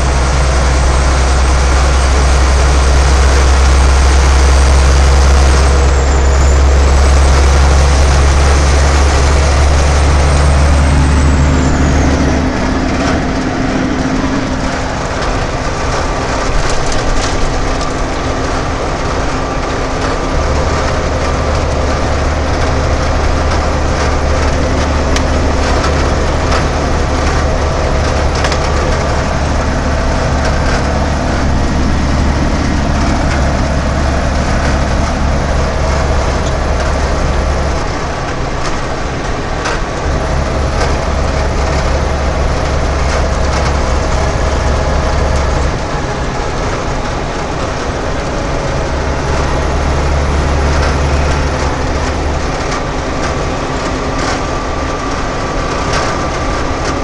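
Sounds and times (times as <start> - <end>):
diesel engine drone: 0.0 - 57.0
rattles in truck cab: 0.0 - 57.0
road and tyre noise: 0.0 - 57.0.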